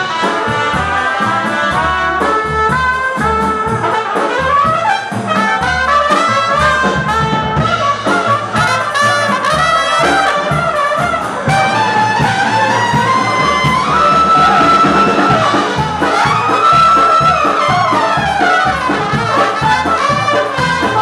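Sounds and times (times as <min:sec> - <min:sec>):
drum kit beat: 0:00.0 - 0:21.0
trumpets playing melody: 0:00.0 - 0:21.0.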